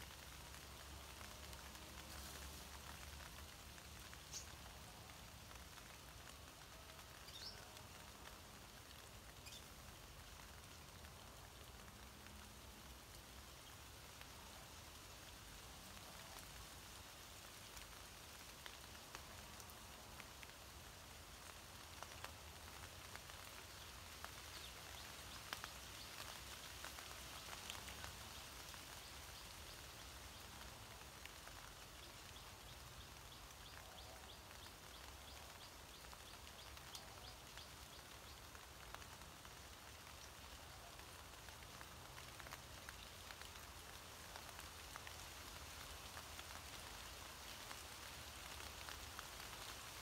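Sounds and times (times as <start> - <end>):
rain falling on leaves: 0.0 - 50.0.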